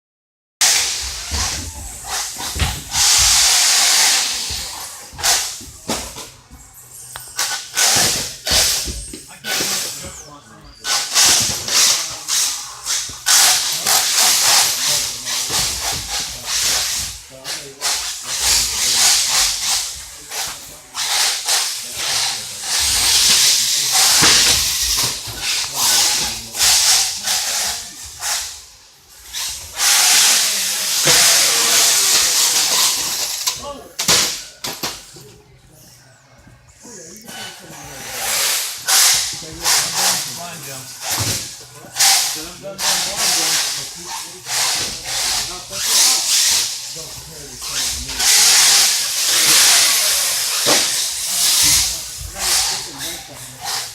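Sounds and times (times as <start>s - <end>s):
radio-controlled cars hissing: 0.6s - 6.3s, 6.9s - 35.2s, 37.1s - 53.9s.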